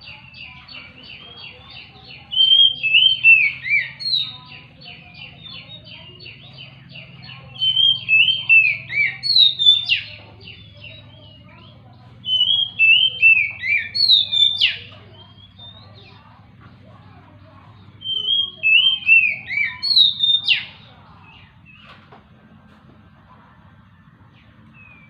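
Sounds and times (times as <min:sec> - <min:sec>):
bird whistling song: 0:00.0 - 0:22.1, 0:24.3 - 0:25.0
rapid faint chirps: 0:00.0 - 0:25.0.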